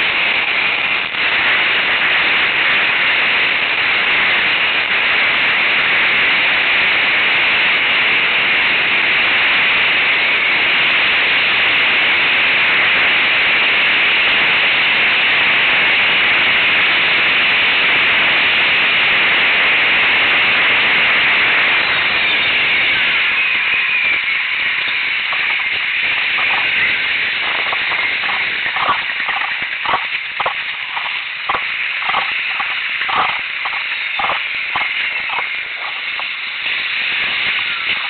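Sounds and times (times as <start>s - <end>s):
static-like hiss: 0.0s - 38.0s.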